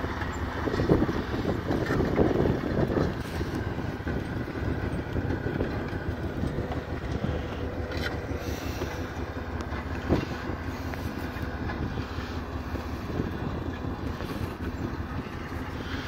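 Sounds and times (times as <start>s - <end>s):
tractor engine rumble: 0.0s - 16.0s.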